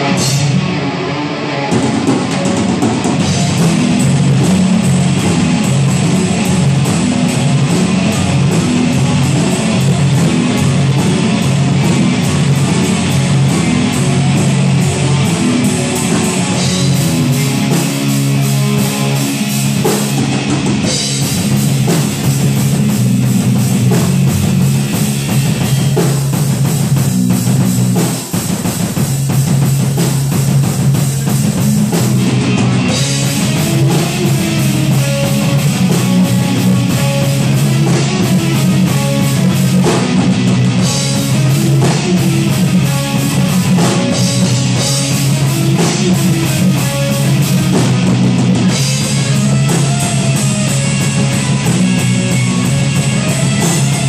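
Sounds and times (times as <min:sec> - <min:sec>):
heavy metal band playing live: 0:00.0 - 0:54.0.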